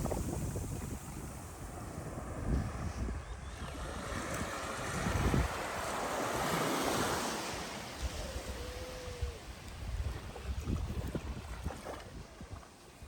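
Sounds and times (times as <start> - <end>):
sea waves washing on shore: 0.0 - 13.0
wind rumbling on microphone: 0.0 - 13.0.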